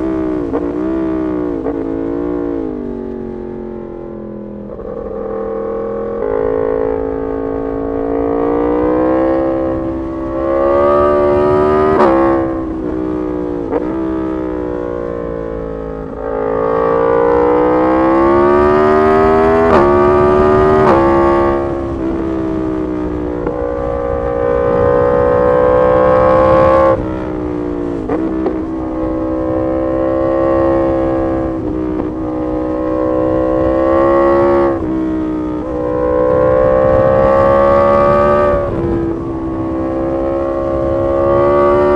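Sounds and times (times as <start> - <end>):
motorcycle accelerating and upshifting: 0.0 - 41.9.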